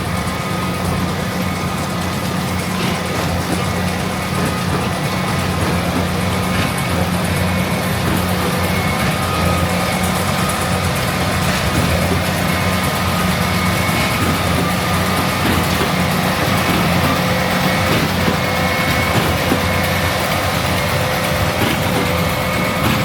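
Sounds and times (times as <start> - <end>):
diesel engine hum: 0.0 - 23.0.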